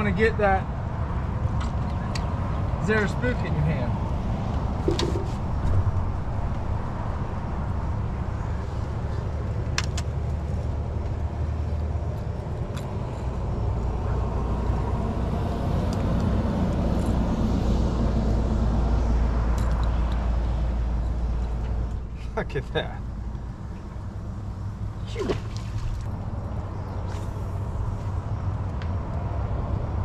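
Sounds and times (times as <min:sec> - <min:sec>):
steady low rumble: 0:00.9 - 0:30.0.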